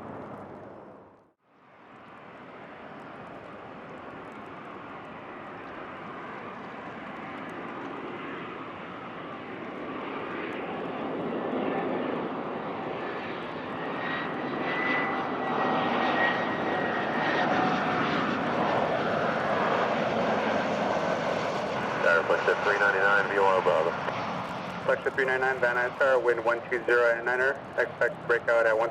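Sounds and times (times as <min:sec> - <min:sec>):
high jet engine whine: 0:00.0 - 0:28.9
jet engines roaring: 0:00.0 - 0:28.9.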